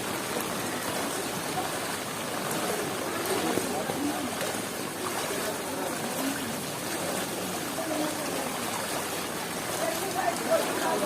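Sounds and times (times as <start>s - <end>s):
heavy rain: 0.0s - 11.0s
running water trickling: 0.0s - 11.0s.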